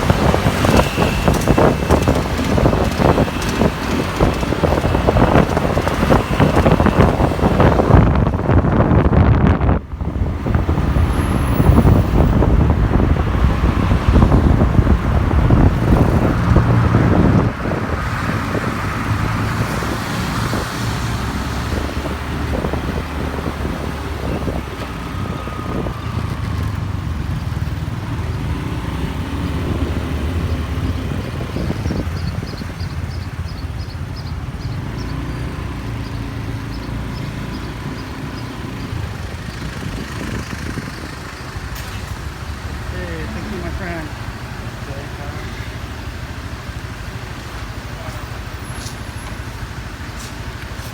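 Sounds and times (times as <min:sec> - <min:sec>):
wind buffeting microphone: 0:00.0 - 0:44.6
motorbike engine: 0:00.0 - 0:50.9
road noise: 0:00.0 - 0:50.9.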